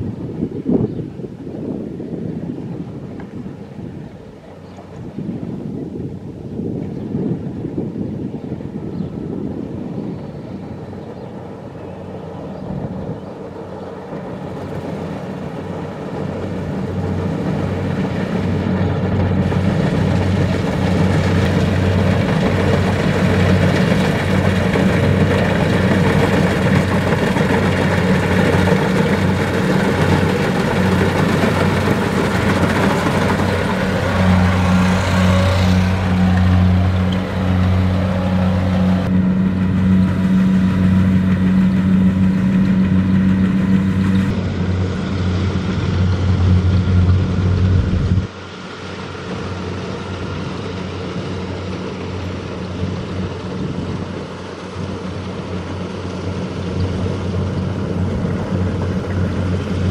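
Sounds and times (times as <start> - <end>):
diesel engine hum: 7.6 - 59.9
harvester machinery noise: 10.8 - 59.9.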